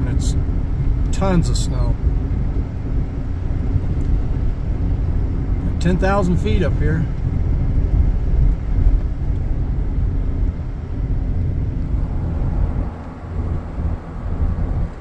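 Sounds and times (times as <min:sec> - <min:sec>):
truck engine rumble inside cab: 0:00.0 - 0:15.0
tyres on snowy road: 0:00.0 - 0:15.0.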